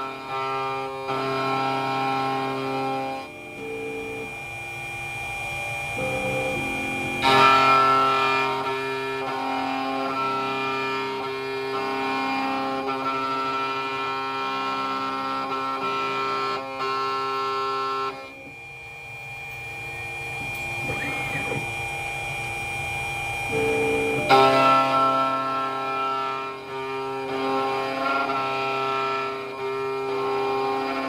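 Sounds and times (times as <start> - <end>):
key-cutting machine whine: 0.0 - 31.0.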